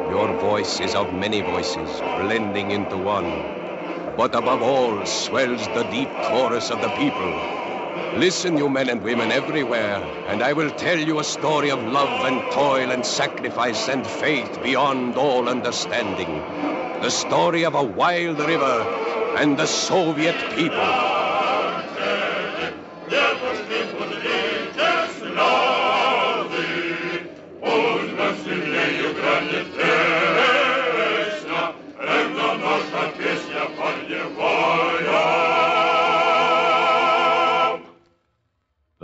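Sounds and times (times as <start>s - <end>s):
choir singing: 0.0s - 38.1s.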